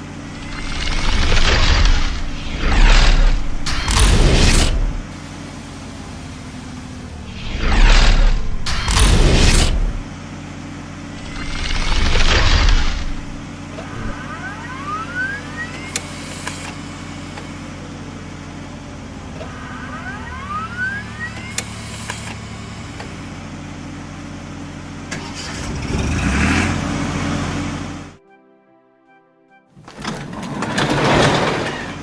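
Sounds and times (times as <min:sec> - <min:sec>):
rising whines: 0:00.0 - 0:05.4, 0:06.9 - 0:10.3, 0:10.9 - 0:28.2
cartoon truck engine: 0:00.0 - 0:28.2, 0:29.8 - 0:32.0.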